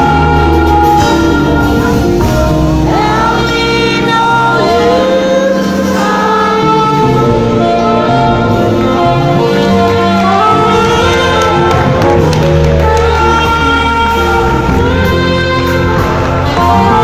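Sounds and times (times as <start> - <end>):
bass: 0.0 - 17.0
keyboard: 0.0 - 17.0
saxophone playing held notes: 0.0 - 17.0.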